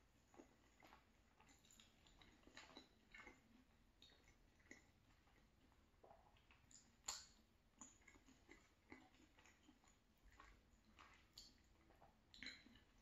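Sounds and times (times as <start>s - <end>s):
chewing pasta: 0.0s - 13.0s.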